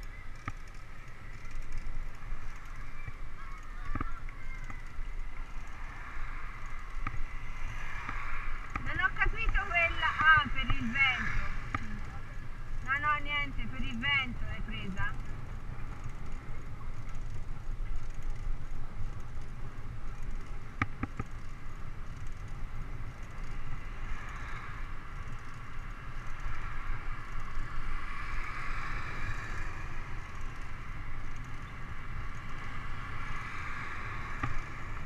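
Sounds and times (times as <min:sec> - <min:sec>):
bicycle tyre and road noise: 0:00.0 - 0:35.0
wind rumbling on microphone: 0:00.0 - 0:35.0.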